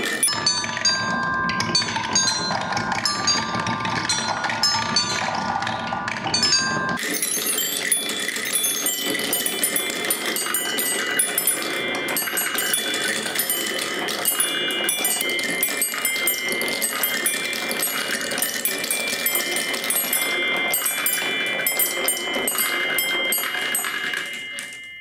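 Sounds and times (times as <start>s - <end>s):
glass striking glass ringing: 0.0s - 25.0s
marbles clicking on wooden run: 0.0s - 25.0s.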